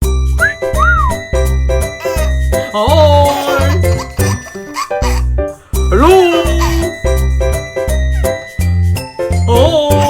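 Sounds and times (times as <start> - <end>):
cheerful jingle music: 0.0 - 10.0.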